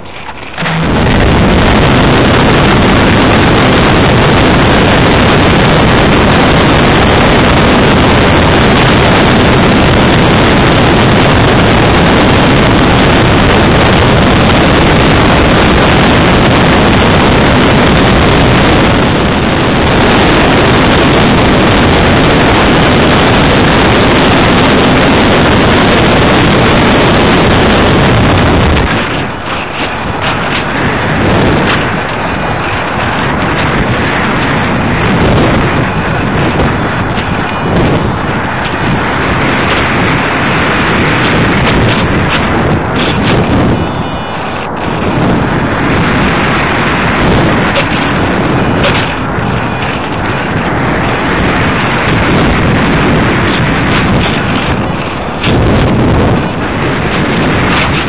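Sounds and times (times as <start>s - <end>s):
electric motor and propeller running: 0.0s - 58.0s
wind on microphone: 0.0s - 58.0s.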